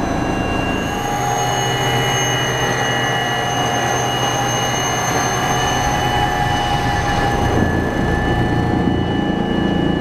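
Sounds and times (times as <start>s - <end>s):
helicopter engine whine: 0.0s - 10.0s
higher whine: 0.0s - 10.0s.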